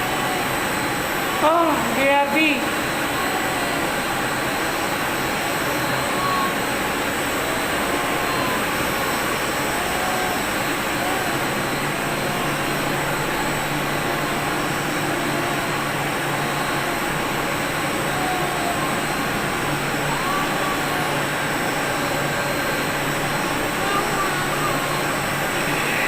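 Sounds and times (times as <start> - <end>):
constant high whine: 0.0 - 26.0
steady machine drone: 0.0 - 26.0.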